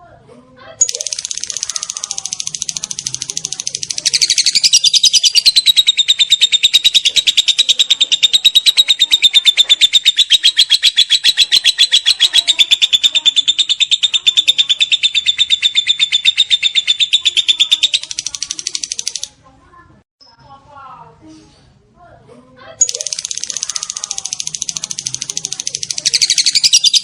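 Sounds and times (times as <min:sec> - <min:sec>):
lovebird chattering trill: 0:00.8 - 0:19.4, 0:22.8 - 0:27.0.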